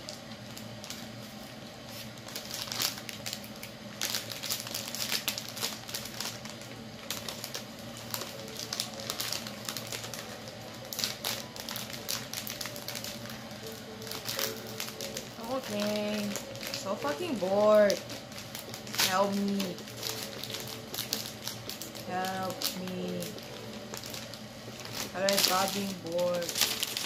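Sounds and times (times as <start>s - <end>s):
cellophane crinkling: 0.0s - 27.0s.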